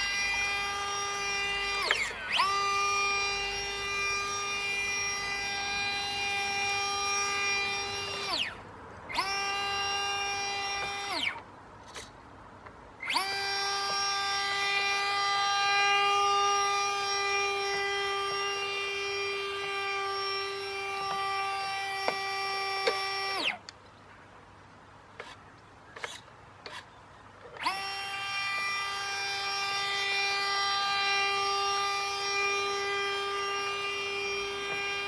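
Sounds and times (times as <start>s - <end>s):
electric motor whining: 0.0s - 23.8s, 25.2s - 35.0s.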